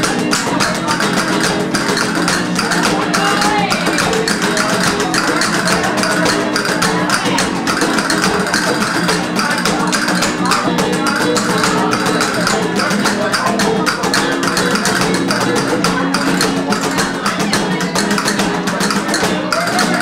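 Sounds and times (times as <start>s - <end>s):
cajon strikes: 0.0s - 20.0s
flamenco guitars playing: 0.0s - 20.0s.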